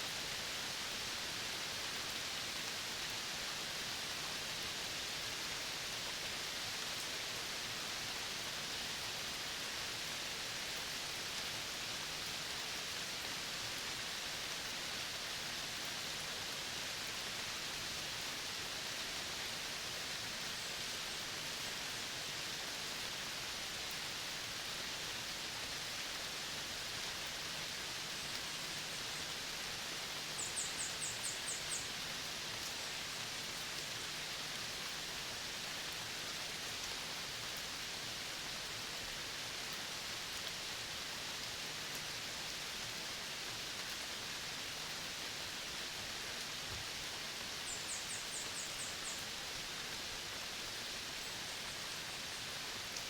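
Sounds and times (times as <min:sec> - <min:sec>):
high steady hiss: 0:00.0 - 0:53.0.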